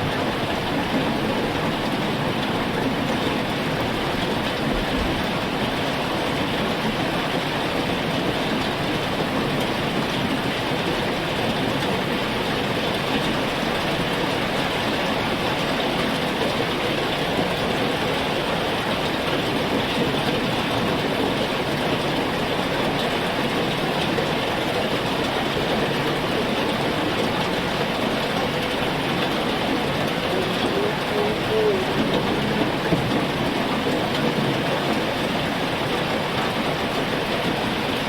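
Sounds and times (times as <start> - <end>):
heavy rain: 0.0 - 38.0.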